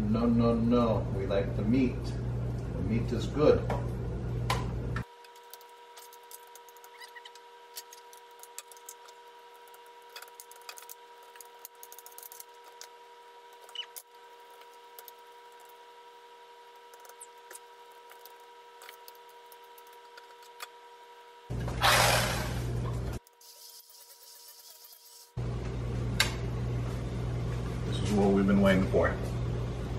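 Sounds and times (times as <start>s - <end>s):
faint electrical hum: 0.0s - 29.9s.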